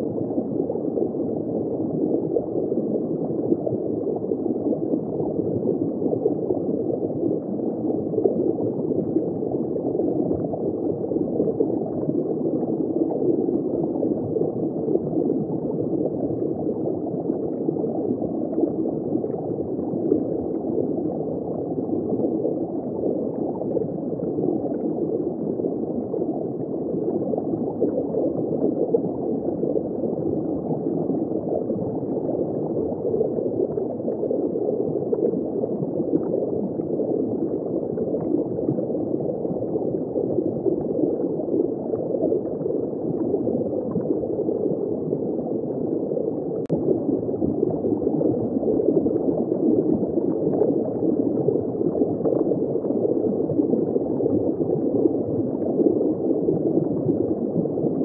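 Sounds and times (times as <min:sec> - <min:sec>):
aquarium water bubbling: 0:00.0 - 0:58.0.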